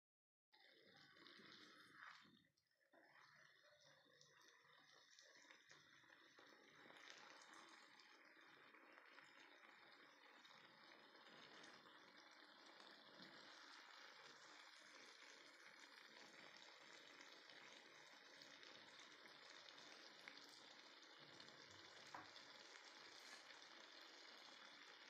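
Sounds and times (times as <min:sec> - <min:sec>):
food sizzling in a pan: 0:00.7 - 0:25.0.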